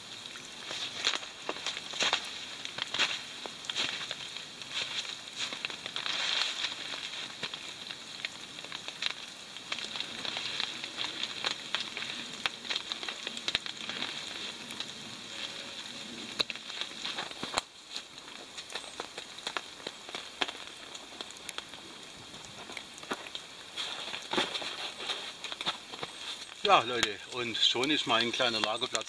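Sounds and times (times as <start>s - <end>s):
wet snow falling: 0.0s - 29.0s.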